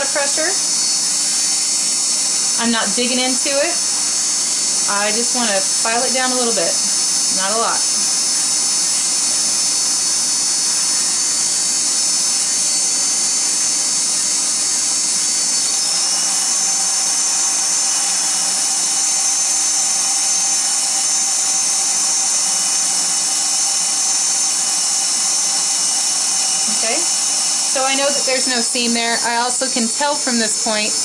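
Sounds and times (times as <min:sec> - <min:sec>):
rotary tool grinding whine: 0:00.0 - 0:31.0.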